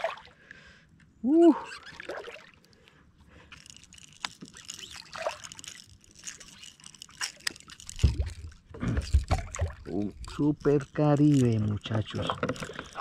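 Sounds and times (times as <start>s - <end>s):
small splashes: 0.0s - 0.4s, 1.8s - 2.9s, 4.0s - 13.0s
water splashing and trickling: 0.0s - 0.4s, 1.6s - 13.0s.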